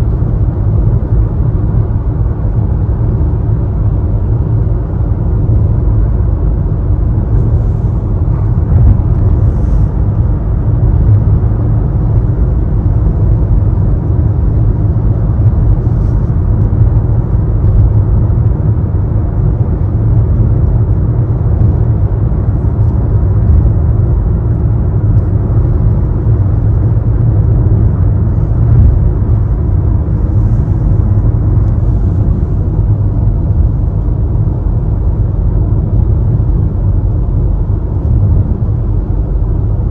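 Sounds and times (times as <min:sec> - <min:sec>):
tyres and engine rumbling: 0:00.0 - 0:39.9.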